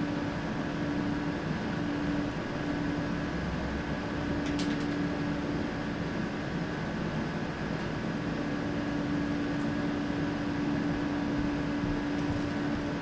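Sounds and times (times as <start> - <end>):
electrical equipment hum and fan: 0.0 - 13.0.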